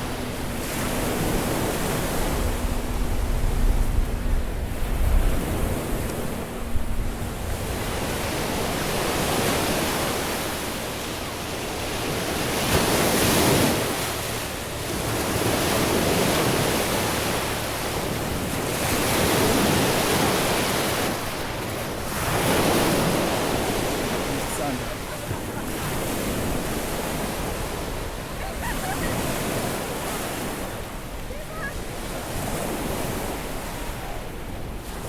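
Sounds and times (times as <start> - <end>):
waves breaking on beach: 0.0 - 35.0
wind on microphone: 0.1 - 35.0.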